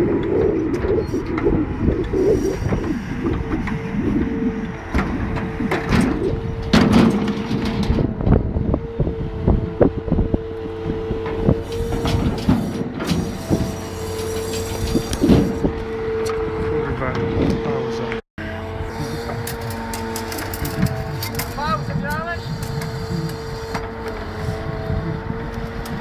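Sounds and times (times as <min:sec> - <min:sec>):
truck engine whine: 0:00.0 - 0:26.0.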